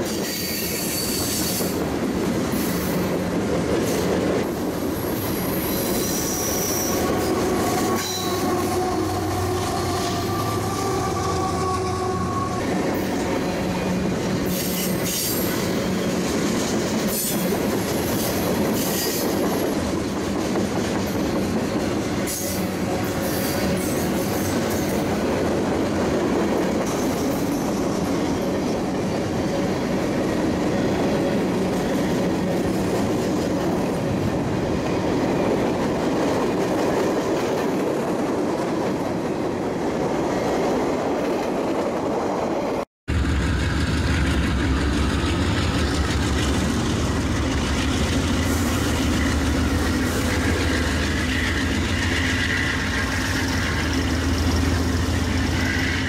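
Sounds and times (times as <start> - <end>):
diesel locomotive engine rumble: 0.0 - 36.9, 43.1 - 56.0.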